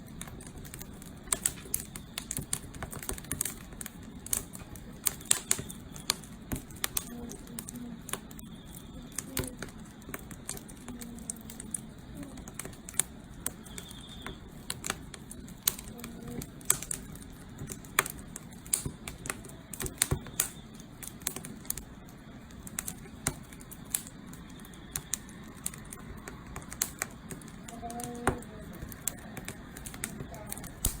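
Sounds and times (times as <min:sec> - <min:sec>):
fire hissing: 0:00.0 - 0:31.0
wood fire crackling and popping: 0:00.0 - 0:31.0.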